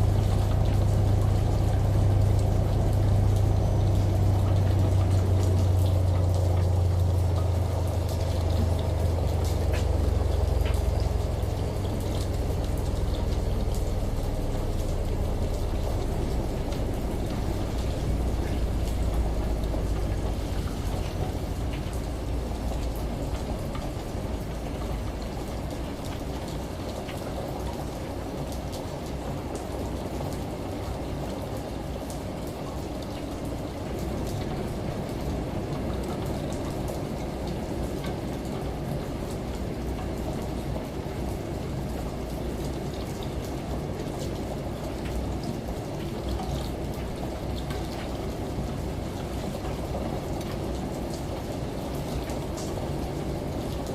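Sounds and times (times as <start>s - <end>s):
steady rain with drop ticks: 0.0s - 53.9s.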